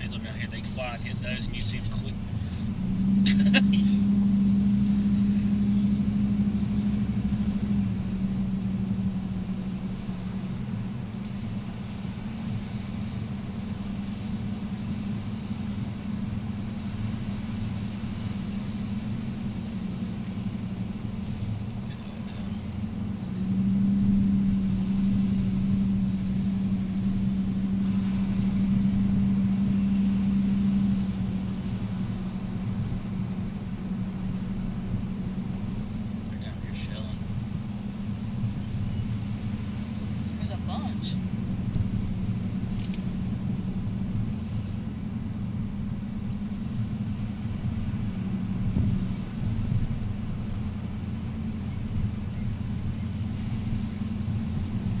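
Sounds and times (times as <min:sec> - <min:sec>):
vehicle engine and tyre drone: 0:00.0 - 0:55.0.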